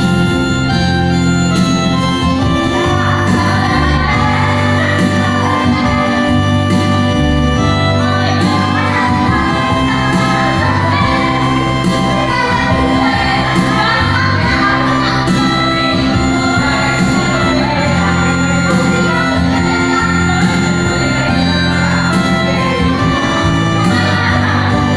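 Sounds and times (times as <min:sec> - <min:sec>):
full band music with singing: 0:00.0 - 0:24.9.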